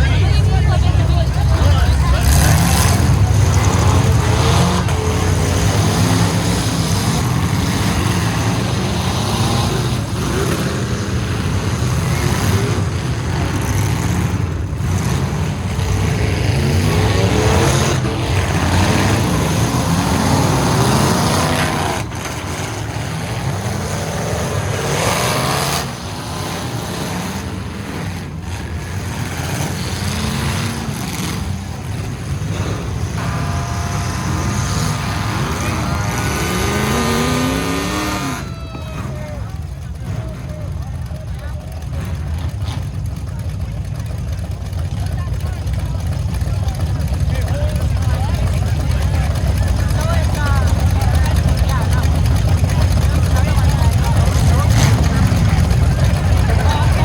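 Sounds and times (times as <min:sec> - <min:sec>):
truck engines revving hard: 0:00.0 - 0:57.0.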